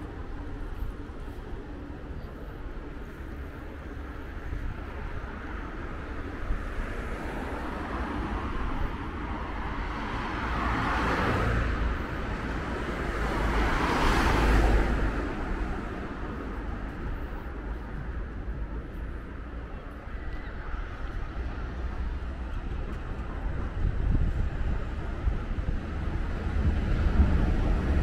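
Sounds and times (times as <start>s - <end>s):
cars passing: 0.0s - 28.0s.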